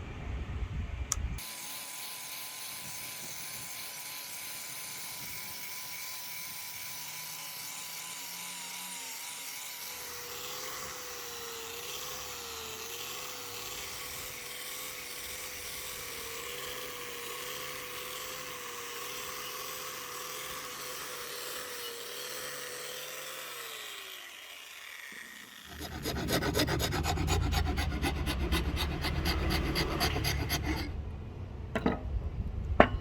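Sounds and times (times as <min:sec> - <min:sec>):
electric power tool motor: 0:01.4 - 0:31.0.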